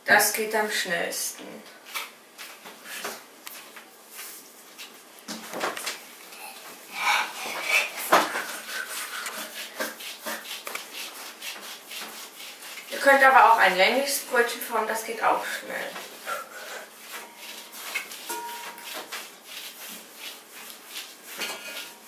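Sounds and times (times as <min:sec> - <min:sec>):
hands rubbing dough: 0:01.8 - 0:22.0.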